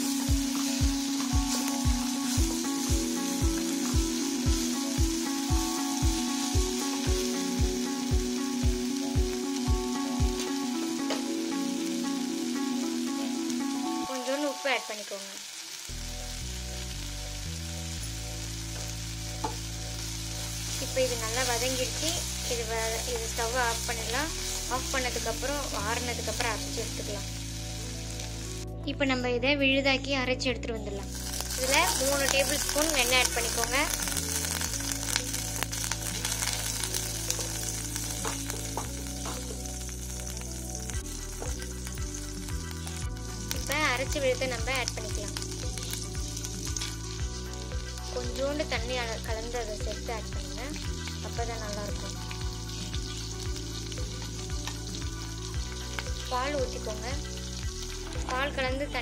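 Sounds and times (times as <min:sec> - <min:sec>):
vegetables sizzling in a pan: 0:00.0 - 0:28.7, 0:31.0 - 0:59.0
background music: 0:00.0 - 0:59.0.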